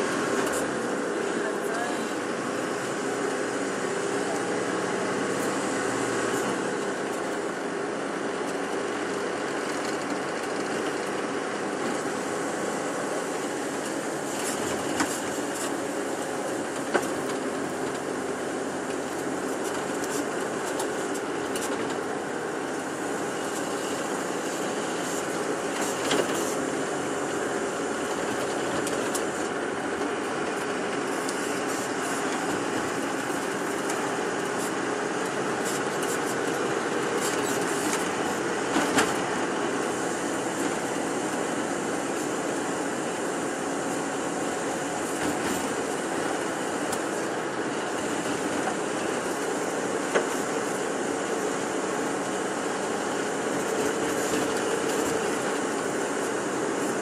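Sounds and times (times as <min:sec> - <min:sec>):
bus engine and road drone: 0:00.0 - 0:57.0.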